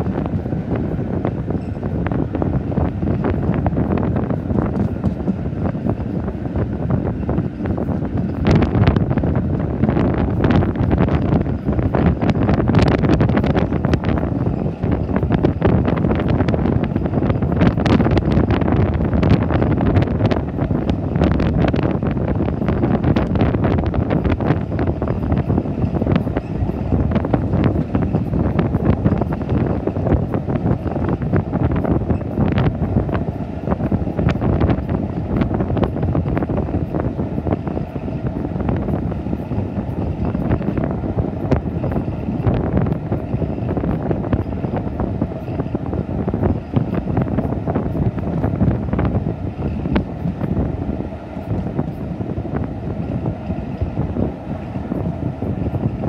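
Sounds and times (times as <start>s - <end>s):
train wheels running on track: 0.0s - 56.0s
wind rushing over microphone: 0.0s - 56.0s.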